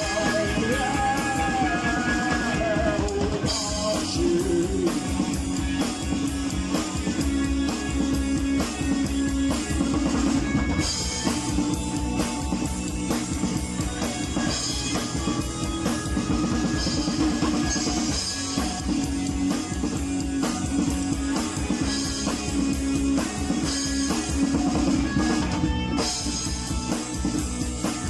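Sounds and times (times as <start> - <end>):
drum kit beat: 0.0 - 28.0
rock guitar: 0.0 - 28.0.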